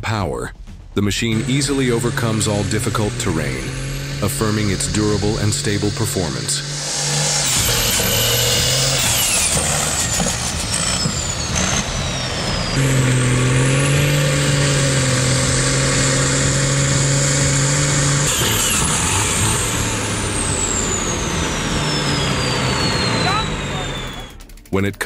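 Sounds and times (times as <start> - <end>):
diesel engines revving hard: 1.1 - 24.4
high whistling tones: 1.2 - 24.8.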